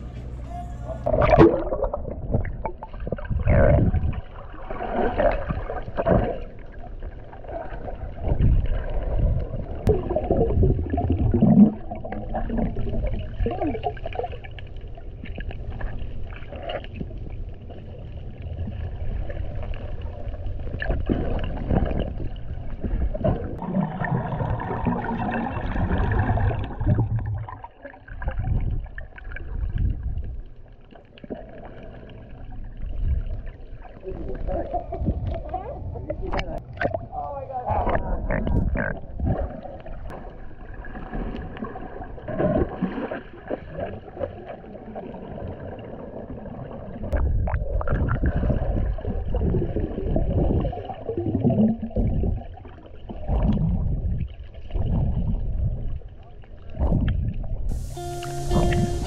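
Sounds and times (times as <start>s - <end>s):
muffled underwater rumbling: 0.0s - 59.0s
swirling water and bubbles: 0.0s - 59.0s.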